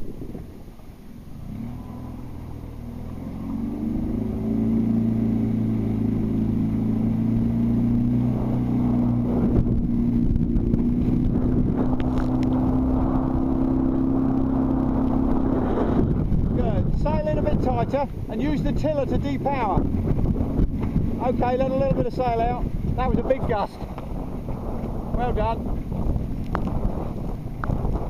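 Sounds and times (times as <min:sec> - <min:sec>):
outboard motor running: 0:00.4 - 0:28.0.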